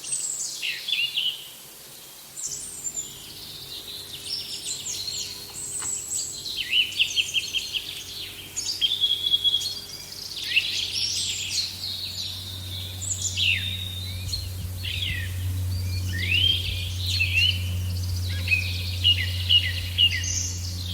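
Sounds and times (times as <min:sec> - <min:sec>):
songbirds chirping: 0:00.0 - 0:20.9
steady low hum: 0:02.4 - 0:20.9.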